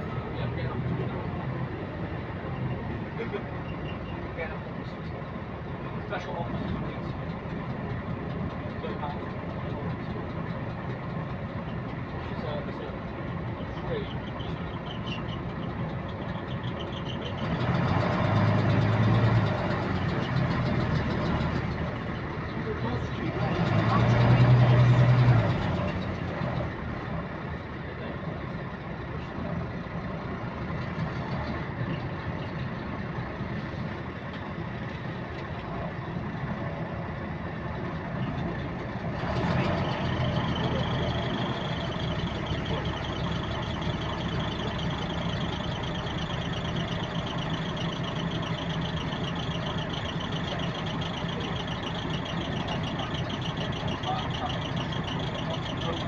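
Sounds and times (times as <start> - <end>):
bus engine running: 0.0 - 56.0
repetitive engine clicking: 3.3 - 56.0.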